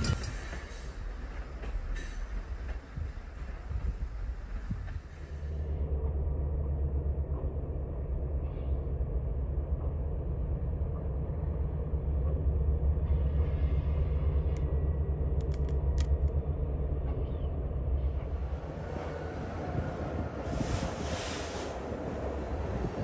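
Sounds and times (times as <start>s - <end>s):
deep locomotive engine rumble: 0.0s - 23.0s.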